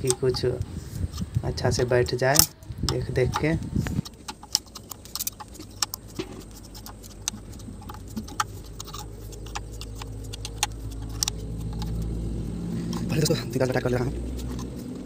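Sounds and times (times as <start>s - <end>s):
spanner clicking on bolts: 0.0s - 15.0s.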